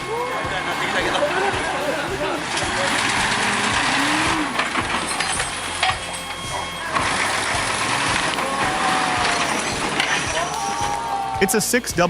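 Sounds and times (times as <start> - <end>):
heavy vehicle rumble: 0.0 - 11.2
knocks and rattles: 0.5 - 11.0.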